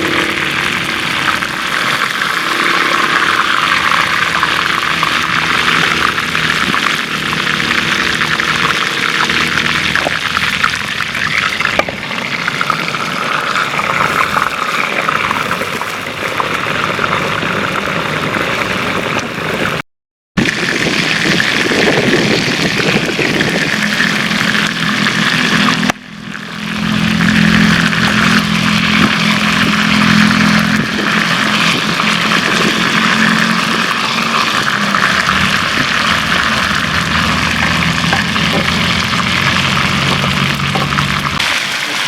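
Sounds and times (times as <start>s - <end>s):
chicken frying in hot oil: 0.0s - 19.8s, 20.4s - 42.0s.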